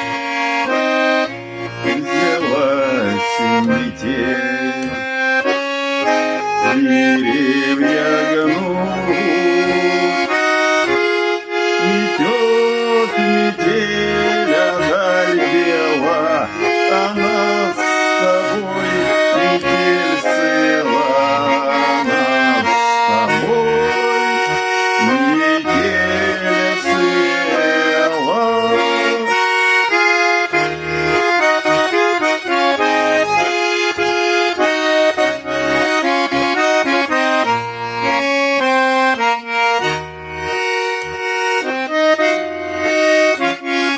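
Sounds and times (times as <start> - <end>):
button accordion folk melody: 0.0 - 43.9.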